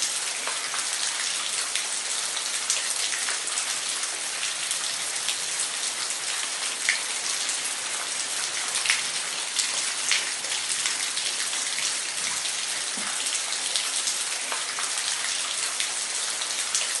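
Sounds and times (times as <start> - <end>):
splashes and drips: 0.0 - 17.0.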